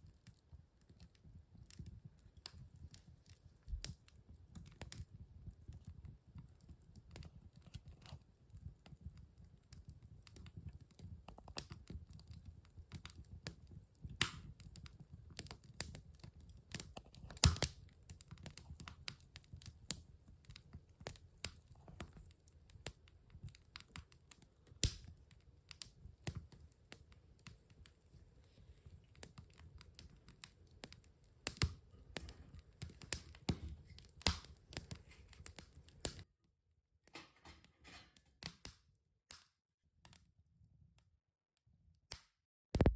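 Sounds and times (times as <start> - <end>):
wood fire crackling: 0.0 - 36.3.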